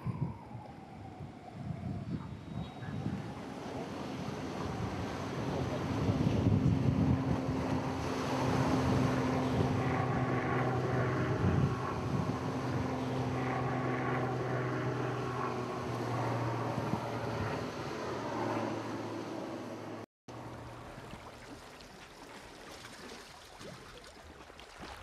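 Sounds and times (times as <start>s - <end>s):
low droning hum: 0.0s - 21.3s
wash of noise: 3.0s - 25.0s.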